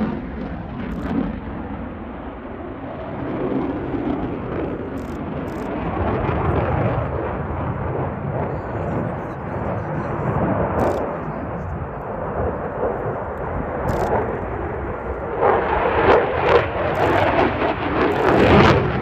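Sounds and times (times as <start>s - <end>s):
fighter jet passing: 0.0s - 19.0s.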